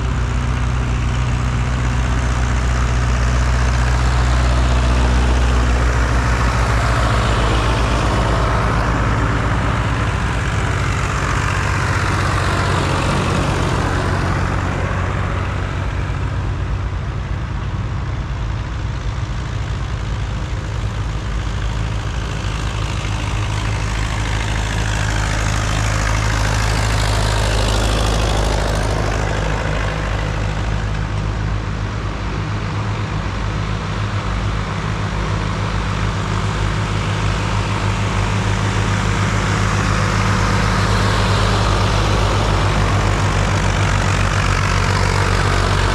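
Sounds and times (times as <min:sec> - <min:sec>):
diesel tractor engine running: 0:00.0 - 0:45.9
passing vehicles road noise: 0:00.0 - 0:45.9.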